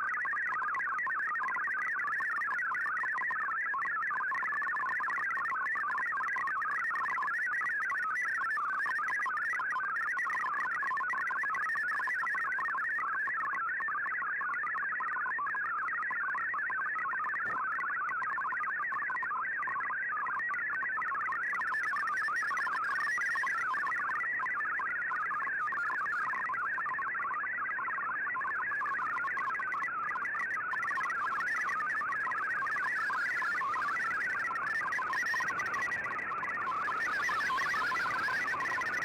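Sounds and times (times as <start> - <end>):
warbling digital data signal: 0.1 - 39.0.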